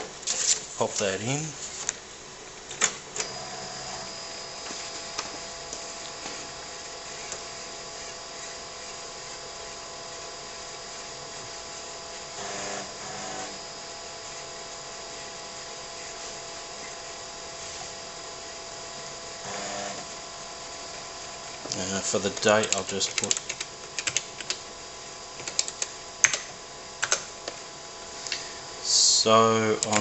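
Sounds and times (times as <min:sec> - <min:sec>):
computer motor hum and whine: 0:00.0 - 0:30.0
floppy drive buzzing grind: 0:00.0 - 0:30.0.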